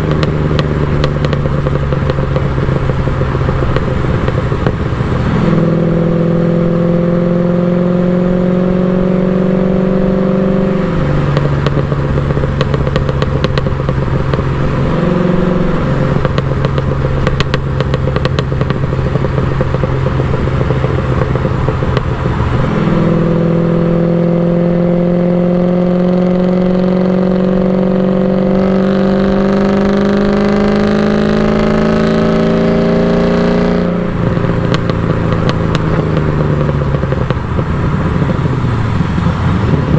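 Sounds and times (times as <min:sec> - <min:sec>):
car engine and exhaust: 0:00.0 - 0:39.9
exhaust crackling: 0:00.0 - 0:39.9.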